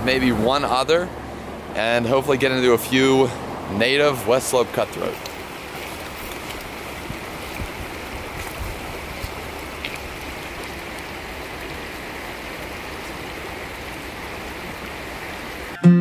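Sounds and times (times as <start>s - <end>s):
stream rushing over rocks: 0.0s - 15.8s.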